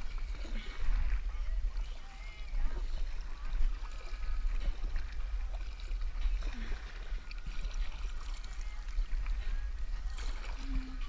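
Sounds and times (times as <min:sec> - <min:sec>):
kayak paddle strokes: 0:00.0 - 0:11.0
water splashing: 0:00.0 - 0:11.0.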